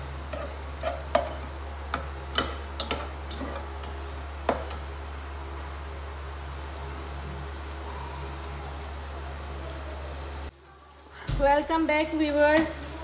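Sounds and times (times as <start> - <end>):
onions frying in oil: 0.0 - 13.0.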